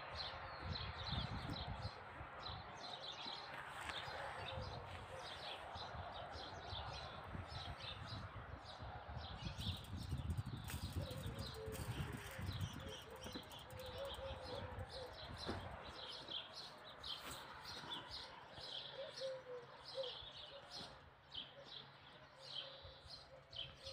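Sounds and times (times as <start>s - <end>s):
small birds chirping: 0.1s - 23.9s.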